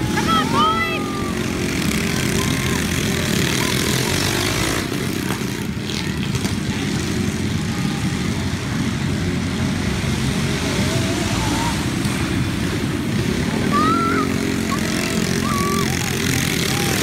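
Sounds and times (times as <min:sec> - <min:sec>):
minibike engines racing: 0:00.0 - 0:17.0.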